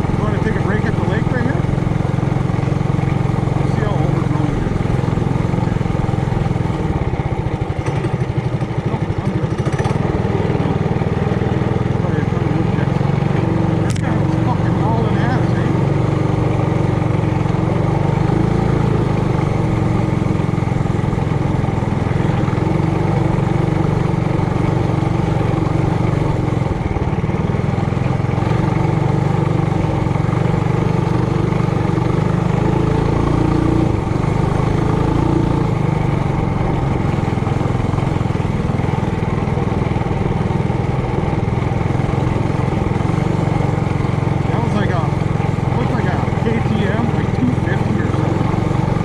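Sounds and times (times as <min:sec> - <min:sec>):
mini bike engine running: 0:00.0 - 0:49.0.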